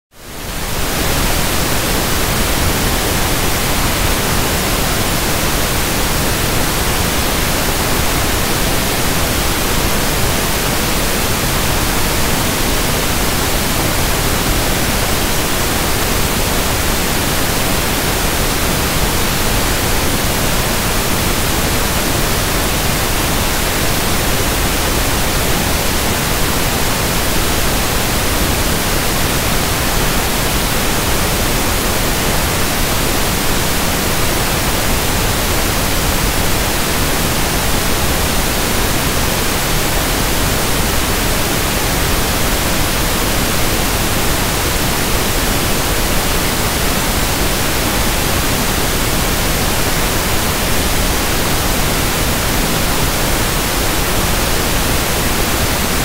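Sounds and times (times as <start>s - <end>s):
pink noise hiss: 0.2s - 56.0s.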